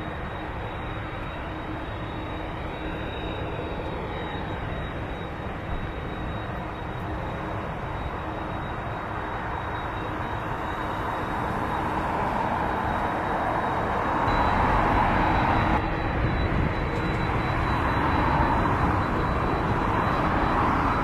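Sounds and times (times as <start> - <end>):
jet engines rushing with whine: 0.0 - 21.0.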